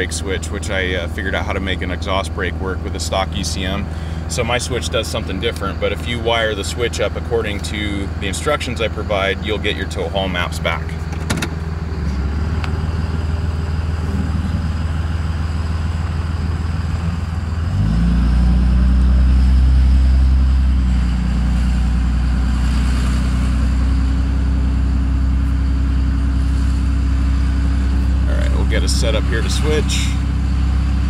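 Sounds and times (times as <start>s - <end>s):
diesel engine heard from cab: 0.0s - 31.0s.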